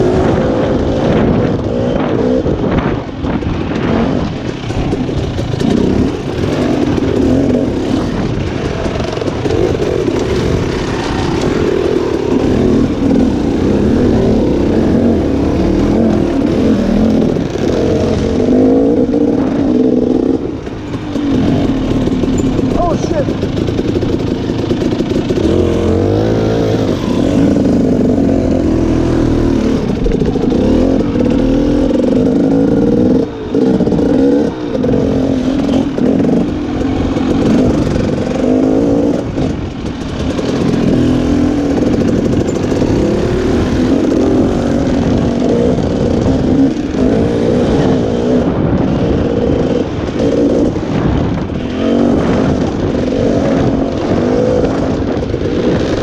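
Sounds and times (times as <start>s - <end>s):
dirt bike engine revving: 0.0s - 56.0s
second dirt bike engine: 0.0s - 56.0s.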